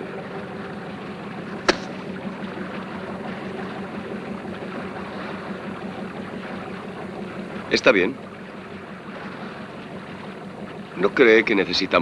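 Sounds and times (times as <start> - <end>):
boat engine humming: 0.0 - 12.0
water noise: 0.0 - 12.0.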